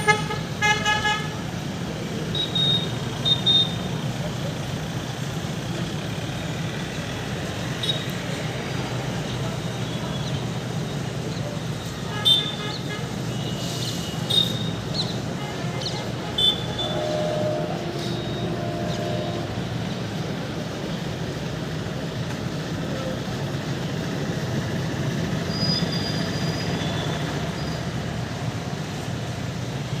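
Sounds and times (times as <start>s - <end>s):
freight train wheels rumbling on rail: 0.0s - 30.0s.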